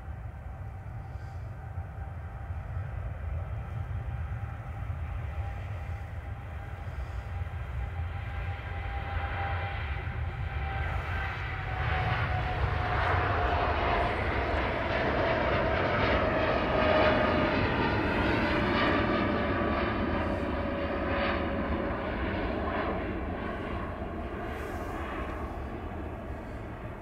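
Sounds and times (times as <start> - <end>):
jet engines at take-off thrust: 0.0 - 27.0.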